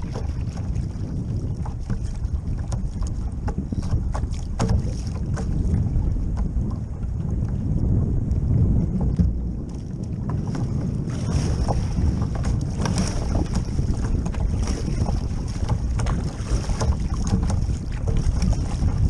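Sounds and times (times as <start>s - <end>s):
water splashing from paddling: 0.0s - 19.0s
wind buffeting microphone: 0.0s - 19.0s.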